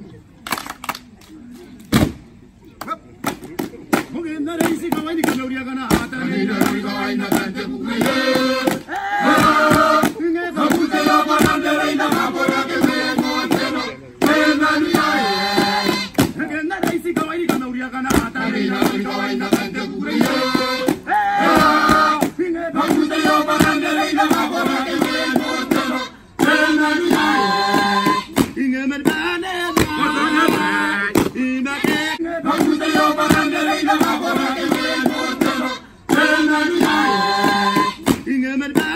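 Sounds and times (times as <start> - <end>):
group chanting in chorus: 5.3 - 38.9.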